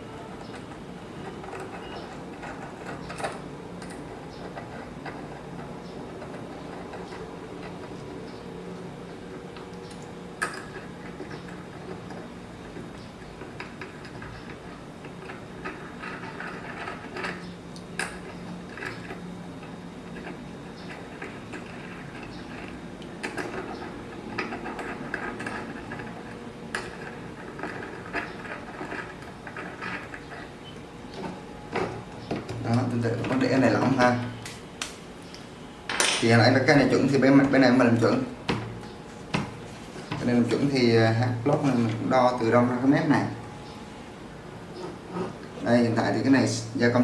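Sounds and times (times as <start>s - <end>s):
low steady hum: 0.0s - 47.0s.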